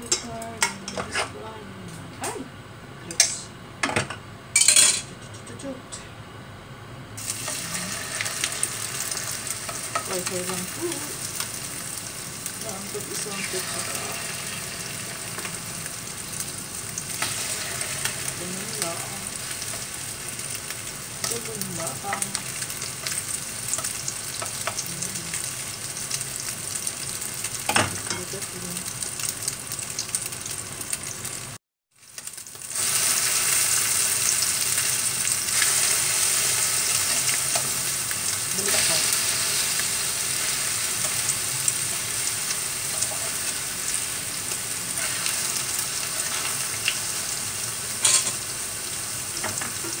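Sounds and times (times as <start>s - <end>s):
fritters sizzling in hot oil: 7.2s - 50.0s.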